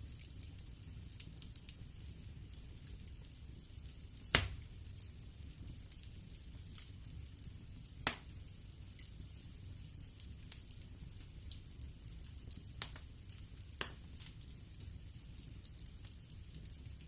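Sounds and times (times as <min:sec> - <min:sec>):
burning wood popping: 0:00.0 - 0:17.0
wood fire crackling: 0:00.0 - 0:17.0.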